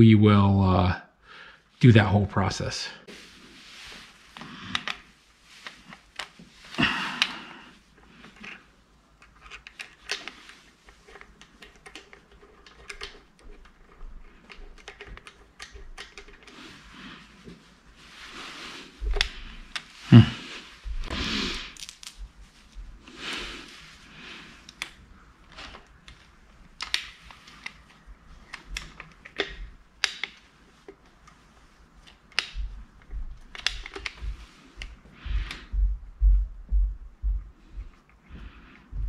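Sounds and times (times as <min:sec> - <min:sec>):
rustling handling noises: 0:01.7 - 0:39.0.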